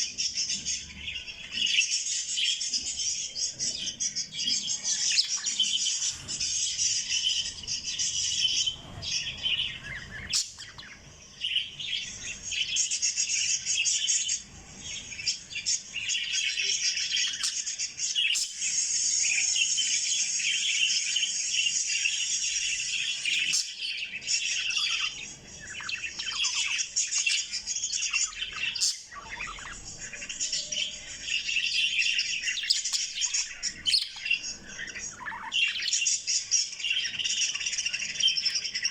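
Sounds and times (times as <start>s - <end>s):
parrots chirping and chattering: 0.0s - 38.9s.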